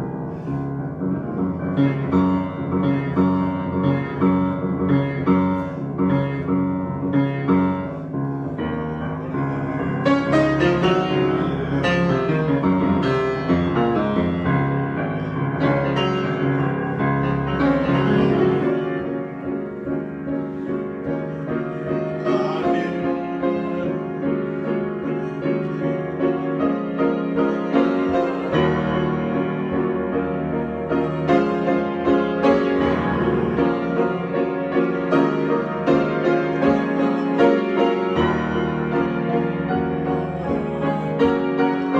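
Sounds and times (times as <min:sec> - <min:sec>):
improvised piano music: 0:00.0 - 0:41.9.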